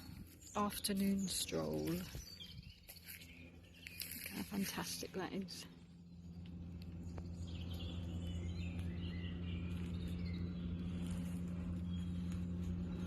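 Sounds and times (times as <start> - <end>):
birds singing: 0.0 - 13.0
steady low drone: 0.0 - 13.0.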